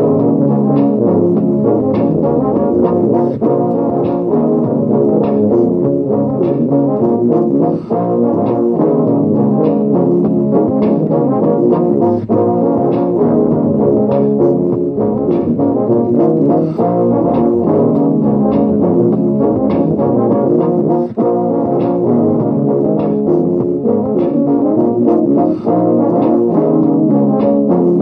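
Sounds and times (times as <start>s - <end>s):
beatboxed percussion: 0.0s - 28.0s
looped tuba bass line: 0.0s - 28.0s
tuba improvising a melody: 0.0s - 28.0s.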